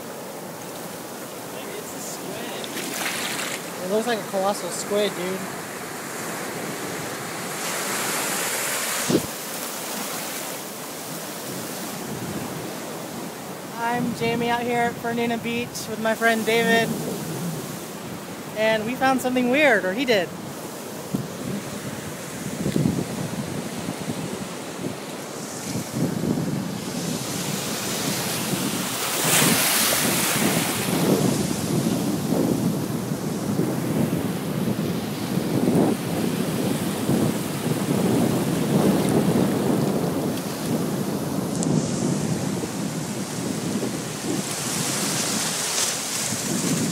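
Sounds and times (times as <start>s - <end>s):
surf washing over sand: 0.0s - 46.9s
wind buffeting microphone: 1.6s - 9.5s, 11.1s - 46.9s.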